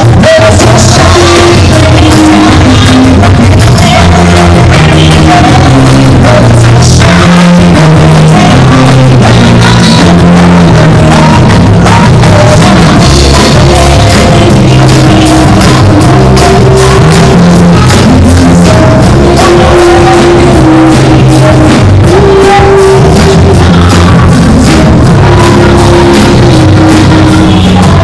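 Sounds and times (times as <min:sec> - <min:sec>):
bass line: 0:00.0 - 0:28.0
drum kit: 0:00.0 - 0:28.0
live band playing amplified music: 0:00.0 - 0:28.0
woman singing: 0:00.0 - 0:28.0.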